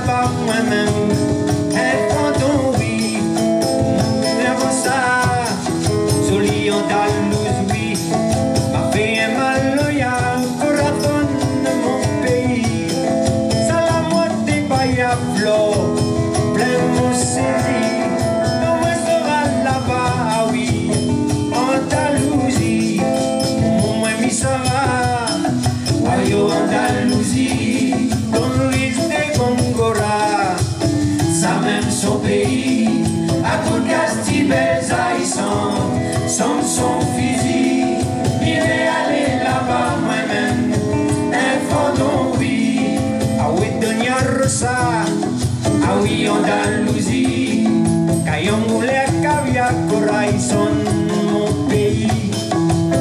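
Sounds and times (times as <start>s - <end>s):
person singing: 0.0s - 52.6s
bass: 0.0s - 53.0s
congas: 0.0s - 53.0s
drum kit: 0.0s - 53.0s
electric guitar: 0.0s - 53.0s
keyboard: 0.0s - 53.0s.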